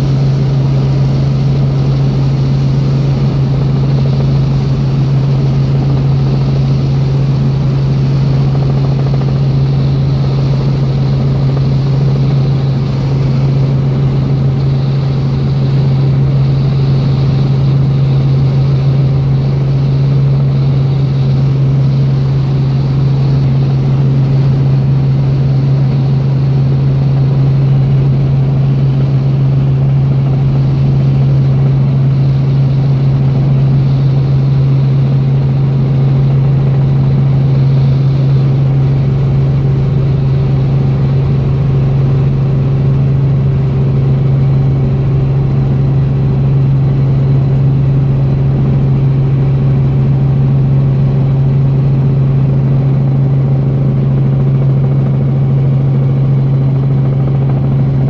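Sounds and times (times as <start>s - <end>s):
helicopter cabin drone: 0.0s - 58.0s
low hum: 0.0s - 58.0s.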